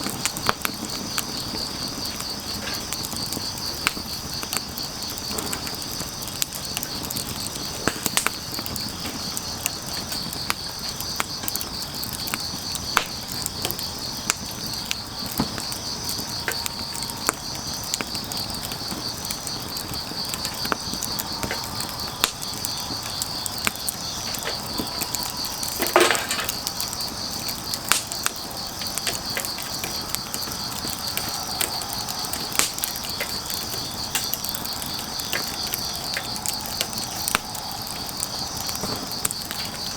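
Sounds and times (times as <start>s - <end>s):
crickets chirring: 0.0s - 39.9s
firewood crackling and popping: 0.0s - 39.9s.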